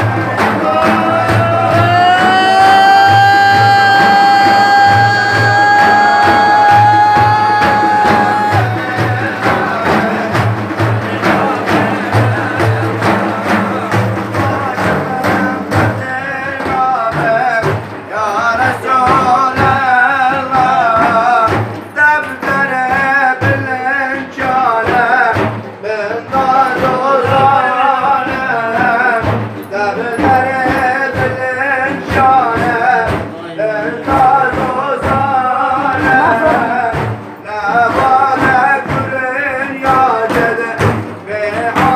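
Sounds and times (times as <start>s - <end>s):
drum beat: 0.0s - 41.9s
man singing devotional hymn: 0.0s - 41.9s.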